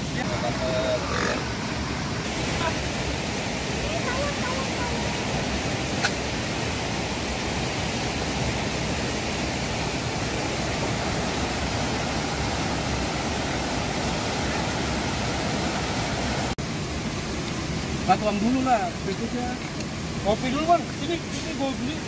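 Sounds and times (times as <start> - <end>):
waterfall rushing over boulders: 0.0 - 22.0.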